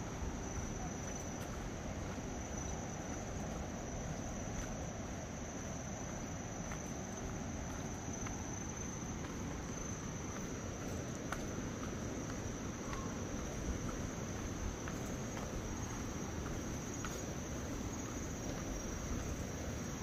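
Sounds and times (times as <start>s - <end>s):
insects calling: 0.0s - 20.0s.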